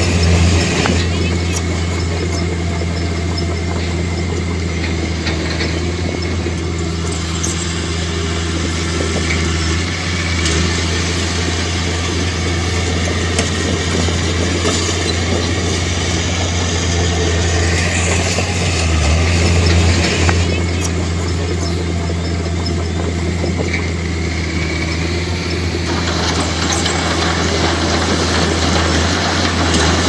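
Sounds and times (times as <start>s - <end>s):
heavy diesel engine drone: 0.0s - 30.0s.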